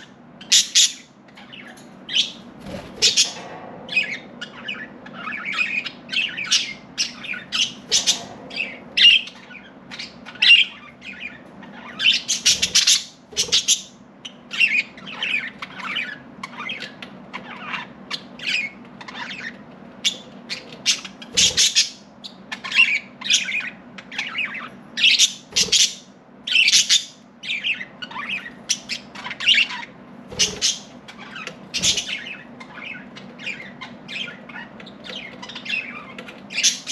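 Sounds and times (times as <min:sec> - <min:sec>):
budgerigars chirping and chattering: 0:00.0 - 0:36.9
faint low hum: 0:00.0 - 0:36.9.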